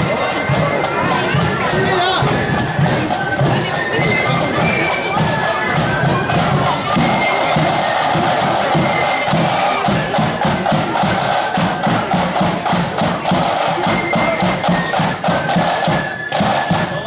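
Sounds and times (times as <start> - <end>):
faint flute notes: 0.0 - 17.0
side drum marching rhythm: 0.0 - 17.0.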